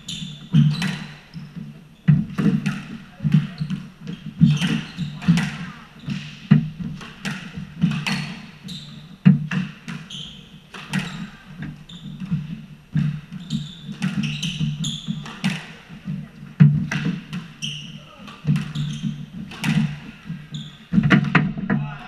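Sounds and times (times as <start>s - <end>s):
sneaker squeaks: 0.0s - 22.0s
squash ball hitting rackets and walls: 0.0s - 22.0s.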